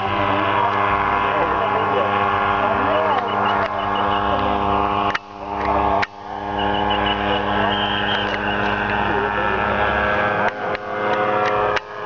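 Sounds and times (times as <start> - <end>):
engine and propeller droning overhead: 0.0 - 12.0.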